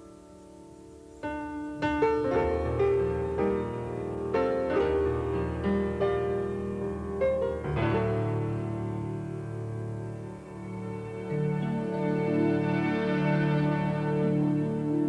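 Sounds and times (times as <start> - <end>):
slow piano-like keyboard chords: 0.0 - 15.0.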